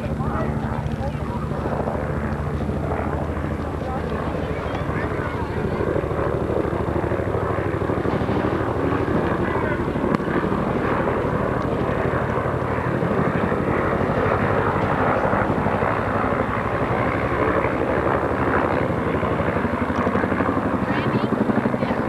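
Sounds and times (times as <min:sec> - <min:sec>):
helicopter rotor beating: 0:00.0 - 0:22.0.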